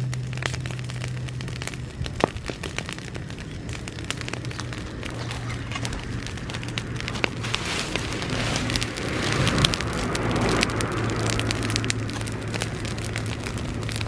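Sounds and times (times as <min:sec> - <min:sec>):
bonfire crackling and hissing: 0:00.0 - 0:14.0.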